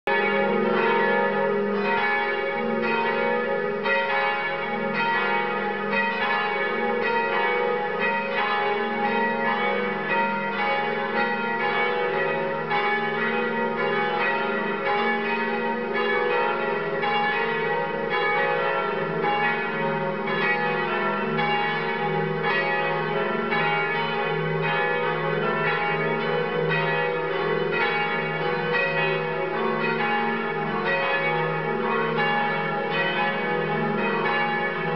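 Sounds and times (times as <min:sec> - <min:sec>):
church bells pealing: 0:00.1 - 0:34.9.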